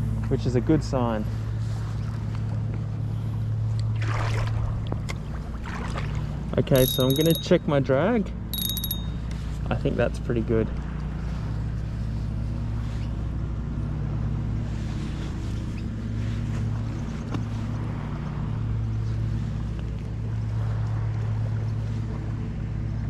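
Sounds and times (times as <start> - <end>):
low motor drone: 0.0 - 23.0
wind and water: 0.0 - 23.0.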